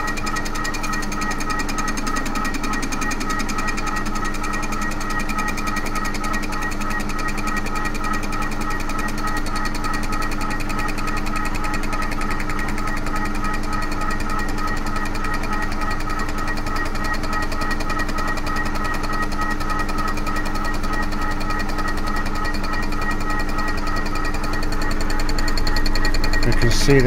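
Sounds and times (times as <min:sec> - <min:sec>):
machine cutter humming and chattering: 0:00.0 - 0:27.0.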